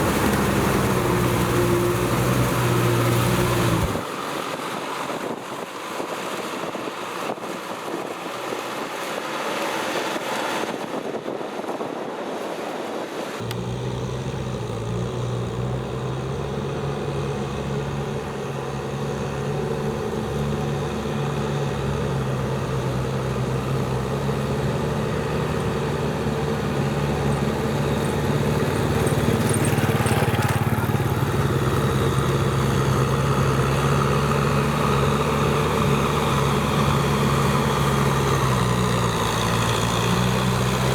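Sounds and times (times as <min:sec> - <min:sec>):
tractor engine drone: 0:00.0 - 0:11.4, 0:13.3 - 0:40.9.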